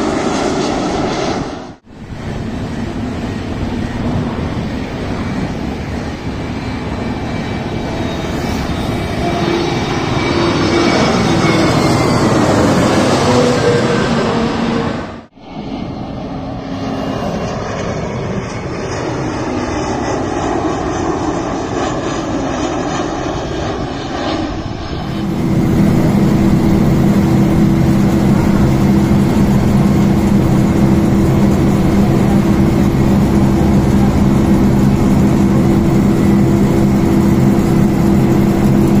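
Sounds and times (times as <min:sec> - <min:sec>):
airliner engines droning: 0:00.0 - 0:39.0
rushing aircraft engine noise: 0:00.0 - 0:39.0.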